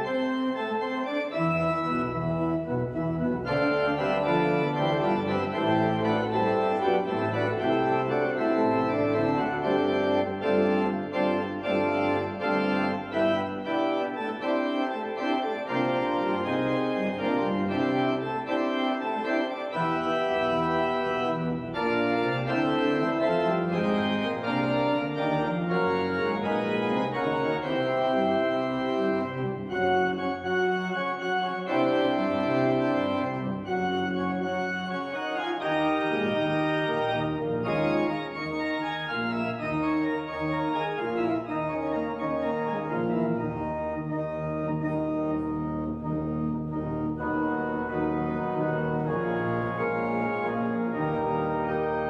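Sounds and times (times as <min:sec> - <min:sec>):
church organ chords: 0:00.0 - 0:52.0.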